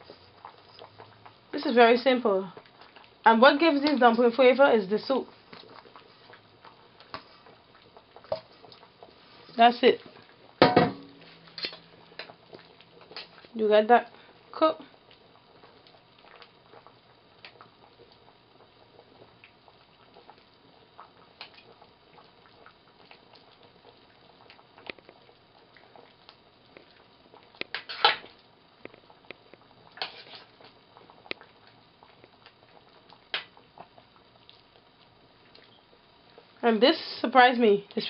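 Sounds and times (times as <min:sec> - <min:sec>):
soup simmering with small pops: 0:00.0 - 0:38.0.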